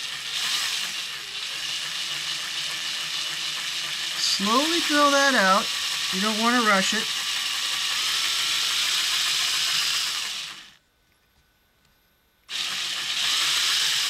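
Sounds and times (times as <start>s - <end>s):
electric drill boring into metal: 0.0s - 10.8s, 12.5s - 14.0s.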